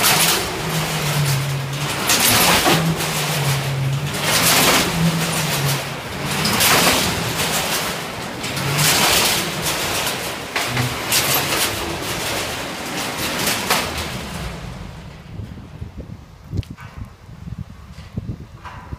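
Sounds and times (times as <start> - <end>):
car engine running hard: 0.0 - 15.2.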